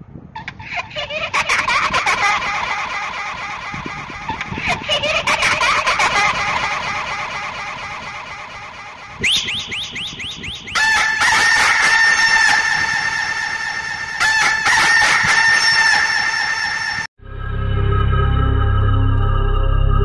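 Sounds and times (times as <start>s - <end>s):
creepy cackling laugh ringtone: 0.4s - 17.1s.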